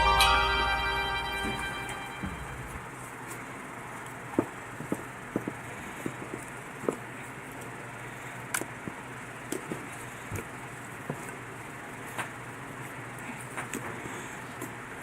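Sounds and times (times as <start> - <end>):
steady background hiss: 0.0 - 13.2.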